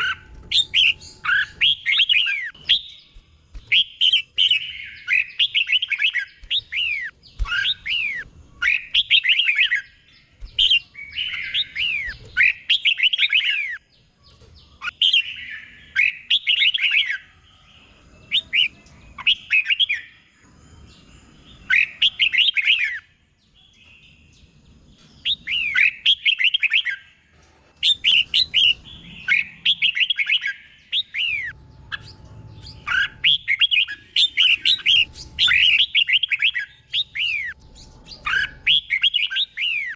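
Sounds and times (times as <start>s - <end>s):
bulbul singing whistled phrases: 0.0s - 23.1s, 25.2s - 27.1s, 27.8s - 39.9s.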